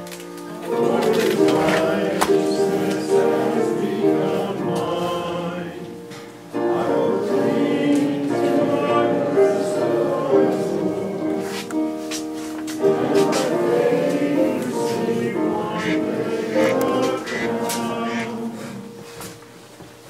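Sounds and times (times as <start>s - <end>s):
instrumental accompaniment: 0.0s - 20.0s
congregation singing a hymn: 0.4s - 19.6s.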